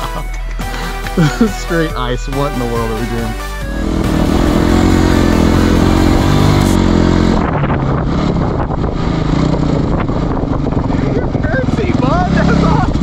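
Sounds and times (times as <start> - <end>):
dirt bike engine droning: 1.2 - 13.0.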